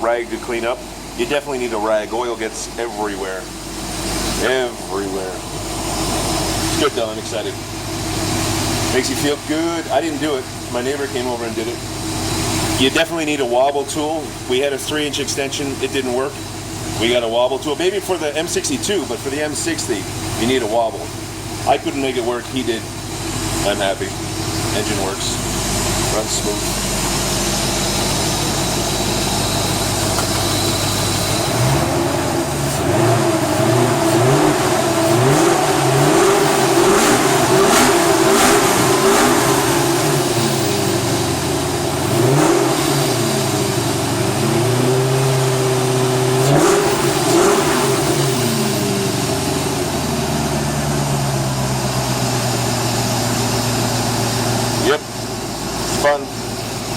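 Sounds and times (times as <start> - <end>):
car engine idling and revving: 0.0 - 56.9.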